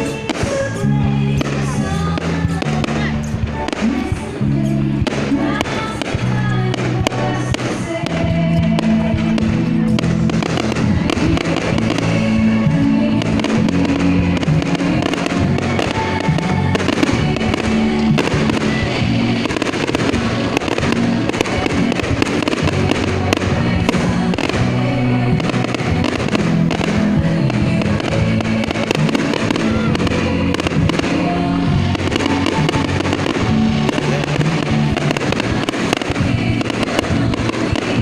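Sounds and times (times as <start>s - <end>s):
fireworks bangs: 0.0s - 38.0s
loud music: 0.0s - 38.0s.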